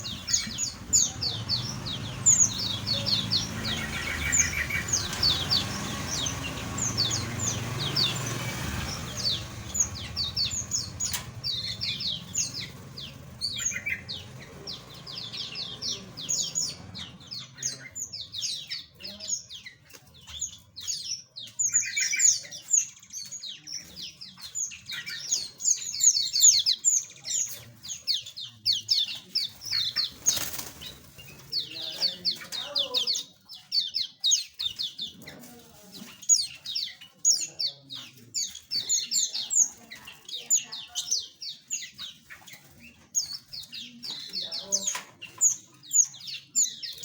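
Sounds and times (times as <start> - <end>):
buzzy lower bird calls: 0.0 - 47.0
small birds chirping: 0.0 - 47.0.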